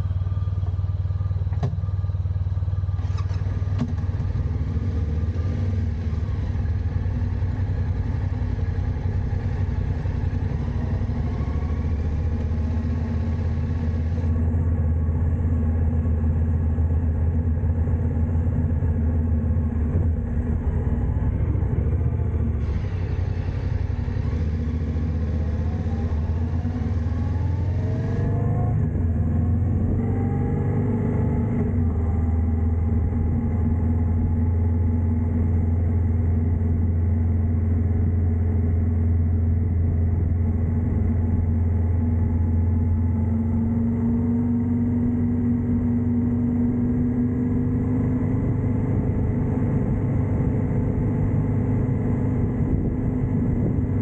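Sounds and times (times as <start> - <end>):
motorcycle engine running: 0.0 - 47.2.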